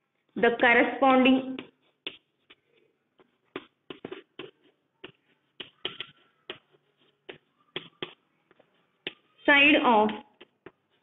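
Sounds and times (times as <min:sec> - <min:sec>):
chalk tapping on chalkboard: 0:01.5 - 0:11.0.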